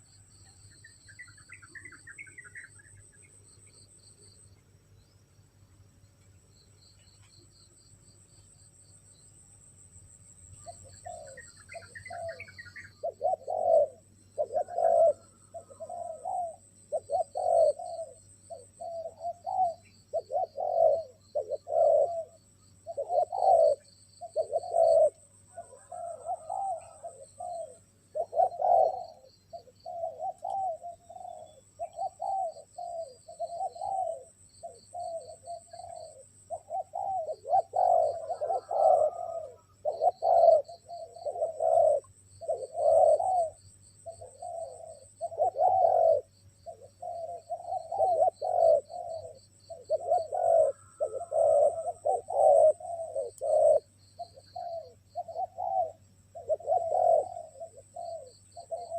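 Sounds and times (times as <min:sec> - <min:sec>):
doves cooing: 0:00.0 - 0:00.3, 0:10.5 - 0:58.9
faint high steady whine: 0:00.0 - 0:58.9.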